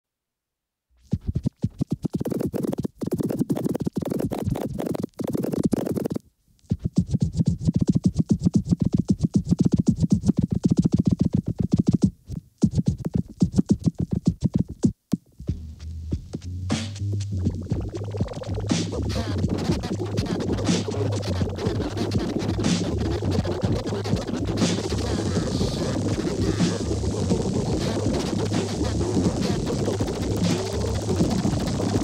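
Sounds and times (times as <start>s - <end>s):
distorted music from skipping record: 1.0s - 32.0s.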